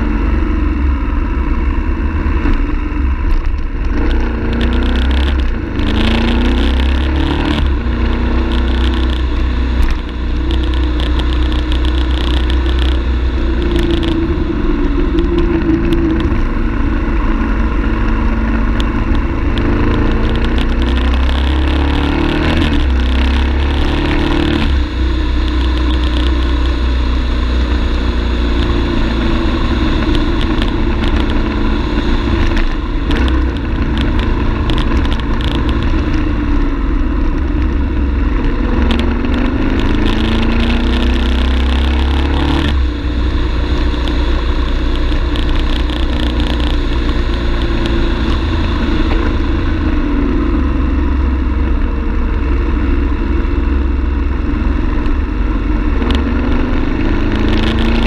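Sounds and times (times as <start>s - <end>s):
low rumble: 0.0s - 58.0s
motorcycle engine revving: 0.0s - 58.0s.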